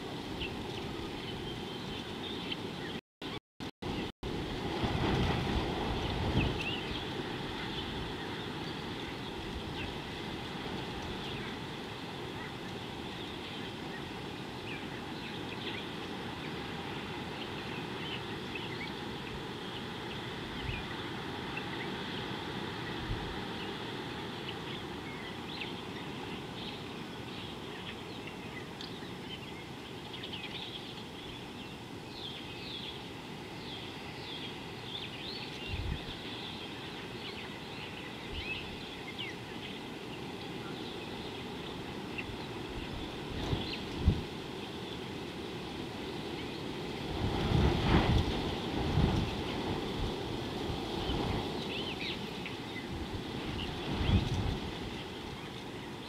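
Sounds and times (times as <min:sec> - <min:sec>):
birds chirping: 0:00.4 - 0:04.1, 0:06.0 - 0:45.2, 0:50.9 - 0:56.0.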